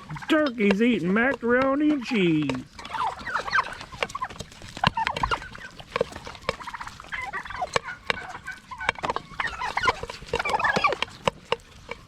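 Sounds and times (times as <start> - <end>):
beaks pecking at a dish: 0.0 - 12.0
turkeys calling: 0.0 - 12.0.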